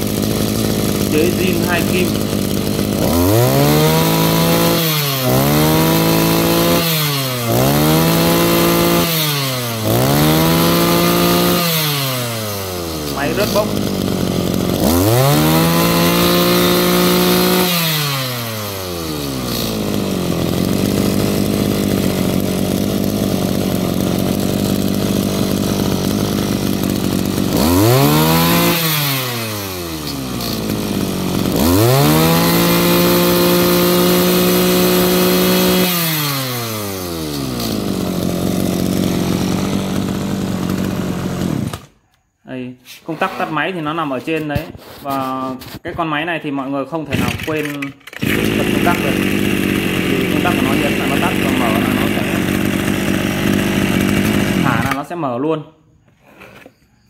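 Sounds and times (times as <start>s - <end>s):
brush cutter engine revving: 0.0s - 42.0s, 42.9s - 46.0s, 46.7s - 55.4s.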